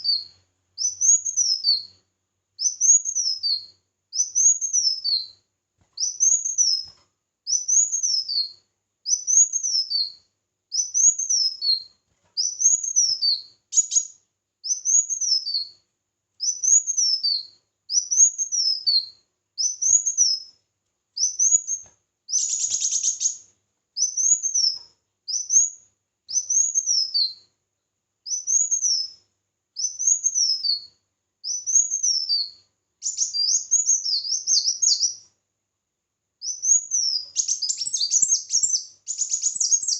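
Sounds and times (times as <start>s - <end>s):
songbird singing: 0.0s - 2.0s, 2.6s - 5.4s, 6.0s - 15.8s, 16.4s - 20.6s, 21.2s - 27.5s, 28.3s - 35.3s, 36.4s - 39.9s.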